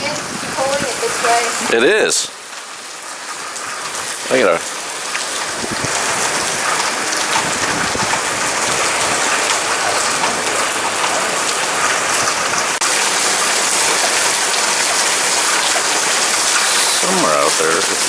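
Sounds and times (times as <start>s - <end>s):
heavy rain splashing on hard surfaces: 0.0s - 18.0s.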